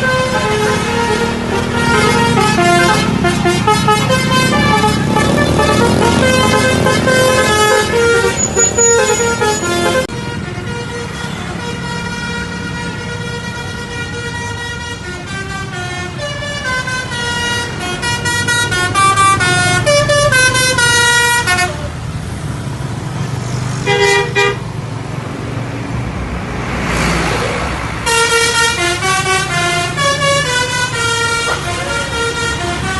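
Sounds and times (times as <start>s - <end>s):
multi-tone bus horn melody: 0.0s - 22.0s, 23.8s - 24.8s, 28.0s - 32.9s
bus engine running: 0.0s - 32.9s.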